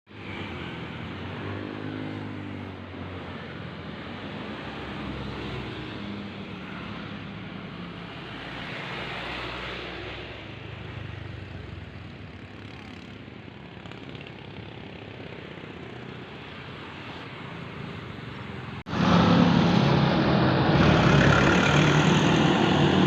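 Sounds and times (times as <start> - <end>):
passing vehicle engines: 0.1 - 23.0
tyre and traffic rumble: 0.1 - 23.0.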